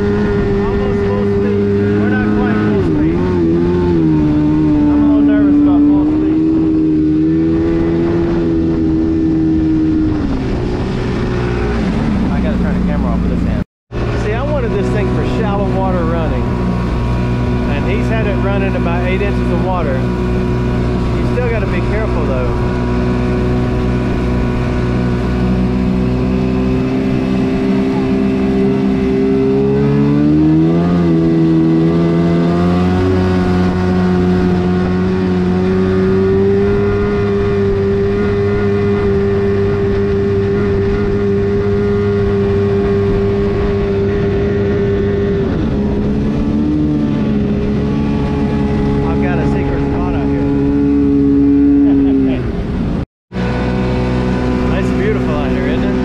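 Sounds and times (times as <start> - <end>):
jet-ski engine at speed: 0.0 - 56.0.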